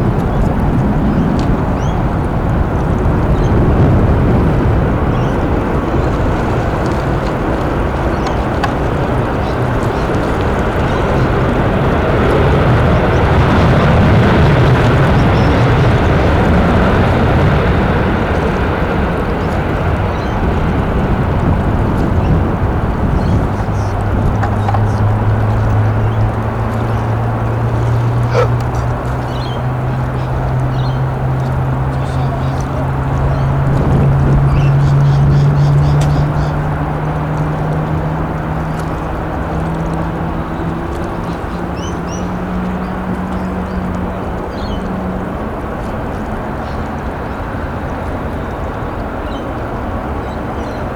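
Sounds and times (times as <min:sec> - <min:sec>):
jet engine rumble: 0:00.0 - 0:50.9.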